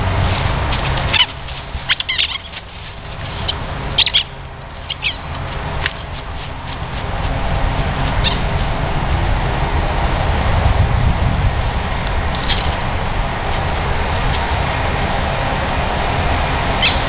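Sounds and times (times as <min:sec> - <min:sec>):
low rumble: 0:00.0 - 0:16.8.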